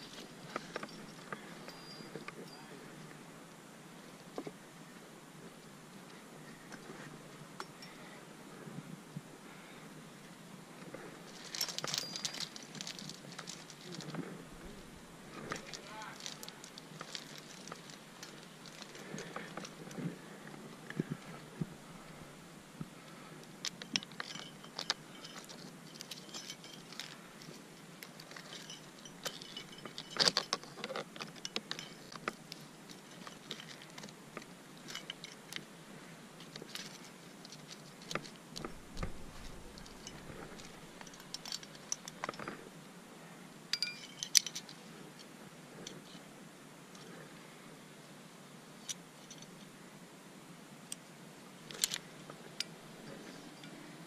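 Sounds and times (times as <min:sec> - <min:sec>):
metal climbing gear clinking: 0:00.0 - 0:03.2, 0:06.4 - 0:08.2, 0:10.8 - 0:42.7, 0:43.7 - 0:46.3, 0:48.8 - 0:49.7, 0:50.9 - 0:54.0.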